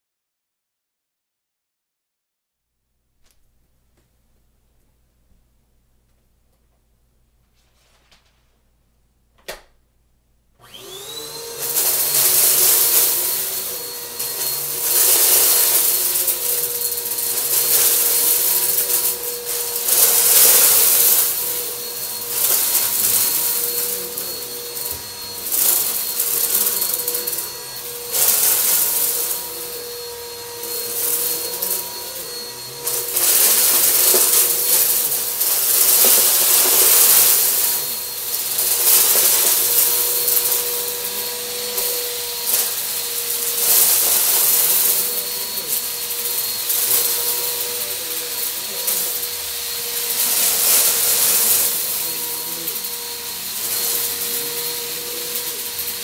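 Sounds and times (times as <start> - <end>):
vacuum cleaner motor whine: 10.6 - 56.0
debris rattling into vacuum: 10.9 - 56.0.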